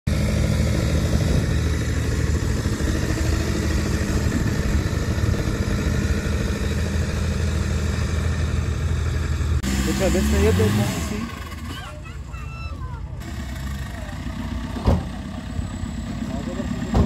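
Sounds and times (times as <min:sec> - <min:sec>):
buggy engine humming: 0:00.1 - 0:17.0.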